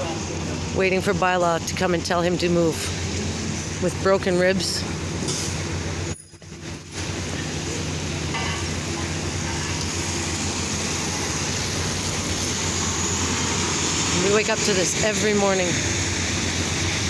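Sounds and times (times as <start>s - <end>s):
pouring rain hiss: 0.0s - 17.0s.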